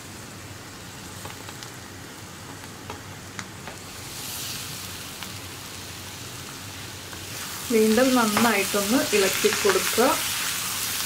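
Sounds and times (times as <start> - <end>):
onions sizzling in a pan: 0.0 - 11.0.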